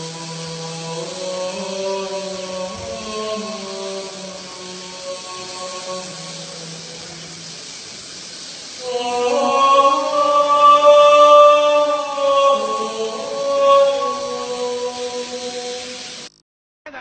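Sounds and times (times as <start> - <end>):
man singing long held notes: 0.0 - 16.3.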